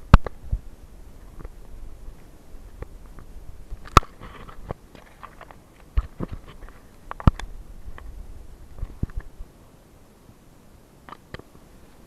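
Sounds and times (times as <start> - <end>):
leaves brushing: 0.0 - 10.0.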